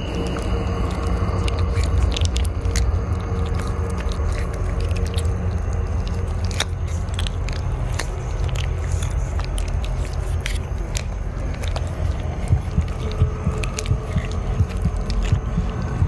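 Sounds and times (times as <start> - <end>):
gnawing and crunching clicks: 0.0 - 16.0
steady low rumble: 0.0 - 16.0.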